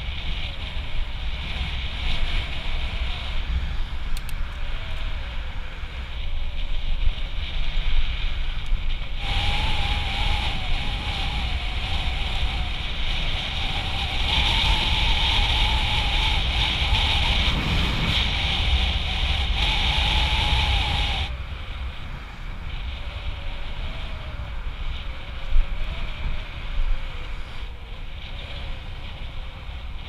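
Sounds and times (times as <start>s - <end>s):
bicycle wheels rumbling on asphalt: 0.0s - 30.0s
wavering whine: 0.0s - 30.0s
wind buffeting microphone: 0.0s - 30.0s.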